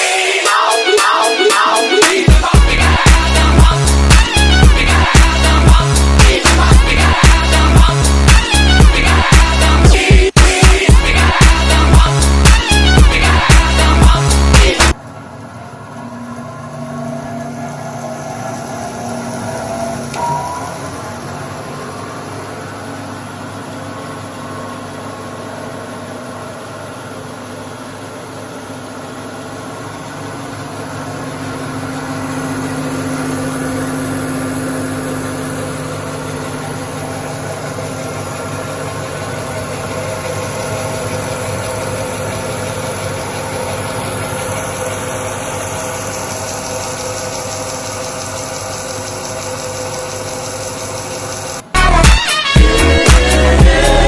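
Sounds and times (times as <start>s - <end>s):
band saw motor hum: 2.2s - 9.8s, 11.0s - 54.0s.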